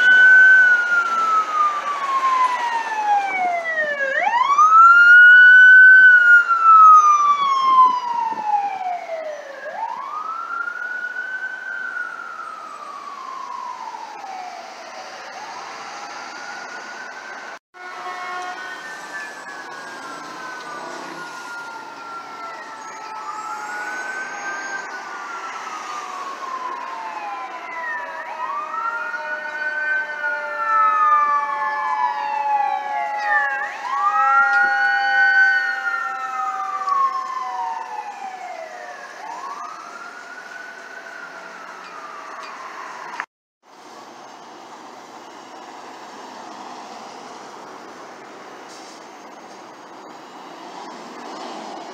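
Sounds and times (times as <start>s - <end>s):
fire truck siren wailing: 0.0s - 51.9s
second slowly falling siren: 0.0s - 51.9s.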